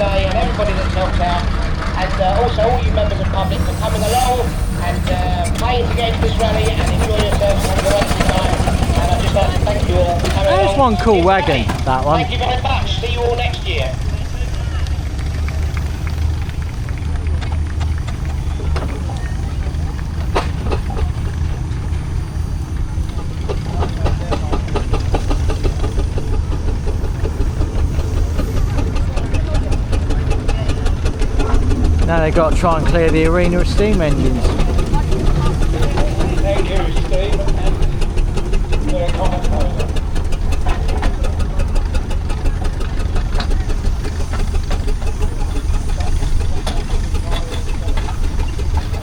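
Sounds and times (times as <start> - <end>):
low engine rumble: 0.0 - 49.0
steam exhaust chuffing: 0.0 - 49.0.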